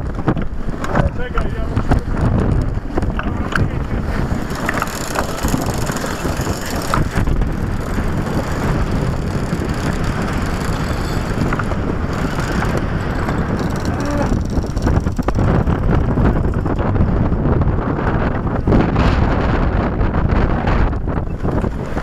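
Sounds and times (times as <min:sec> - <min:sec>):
open sea rushing: 0:00.0 - 0:22.0
wind buffeting the microphone: 0:00.0 - 0:22.0.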